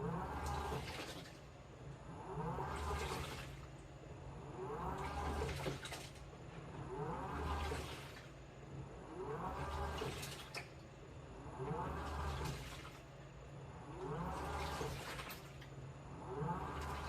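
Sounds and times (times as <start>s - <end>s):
washing machine motor whine: 0.0s - 17.0s
water and laundry sloshing: 0.0s - 17.0s.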